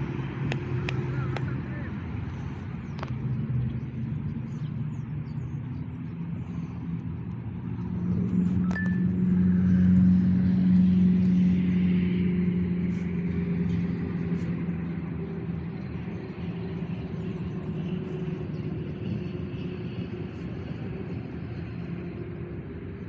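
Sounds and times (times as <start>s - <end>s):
passing motor engine hum: 0.0s - 23.0s.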